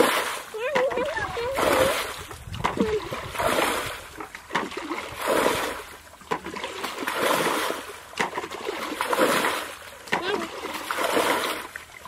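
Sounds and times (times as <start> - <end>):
water splashing from bucket: 0.0 - 12.0.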